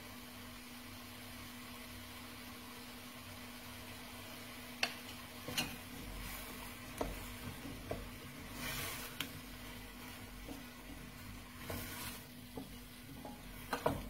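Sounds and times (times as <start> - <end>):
potatoes sizzling in a pan: 0.0 - 14.0.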